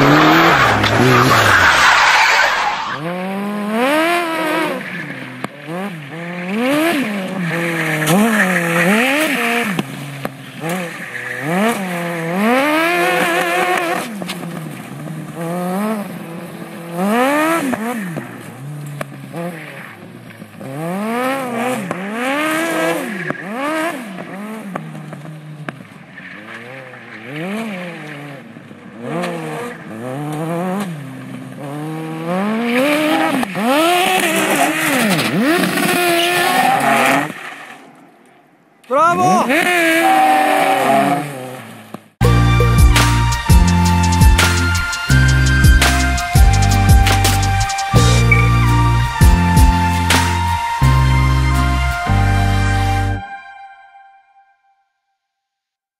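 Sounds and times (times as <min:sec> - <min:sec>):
go-kart engine revving: 0:00.0 - 0:53.2.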